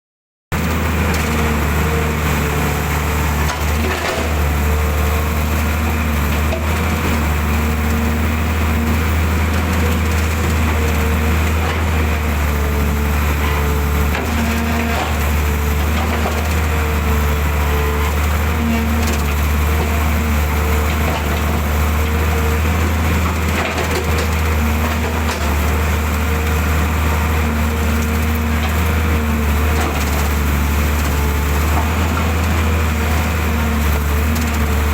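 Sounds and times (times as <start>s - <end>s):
excavator diesel engine running: 0.5s - 34.9s.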